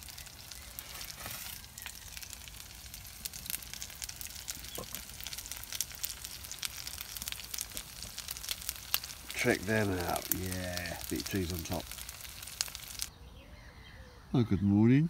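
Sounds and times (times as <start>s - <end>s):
burgers sizzling in frying pan: 0.0s - 13.1s.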